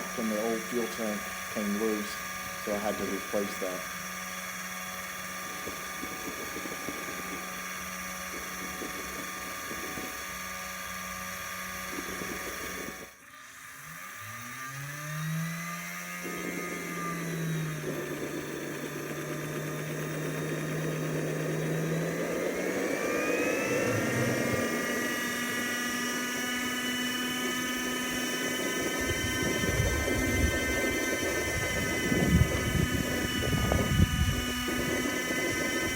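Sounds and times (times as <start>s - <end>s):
model turbine whining: 0.0s - 35.9s.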